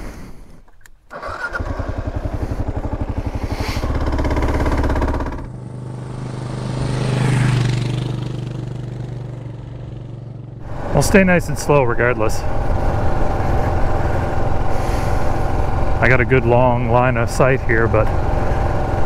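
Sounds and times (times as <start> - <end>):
motorcycle engine starting and revving: 0.7 - 19.0.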